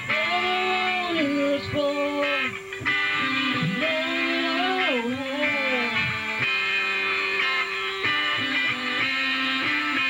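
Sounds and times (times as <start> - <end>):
amplified electric guitars: 0.0 - 10.0.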